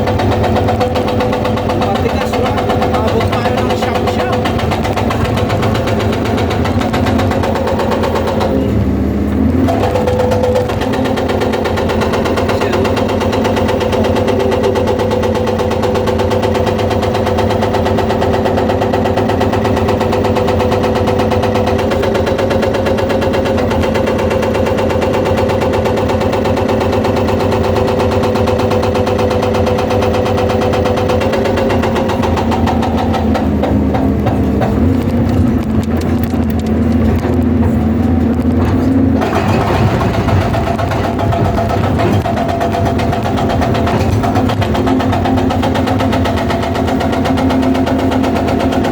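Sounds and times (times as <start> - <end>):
diesel engine under load: 0.0 - 48.9
hydraulic breaker hammering rock: 0.0 - 48.9.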